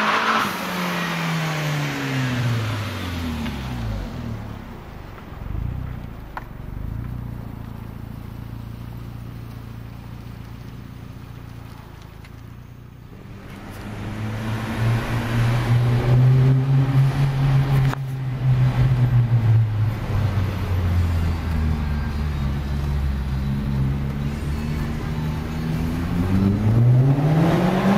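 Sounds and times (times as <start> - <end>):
car engine accelerating: 0.0 - 27.9.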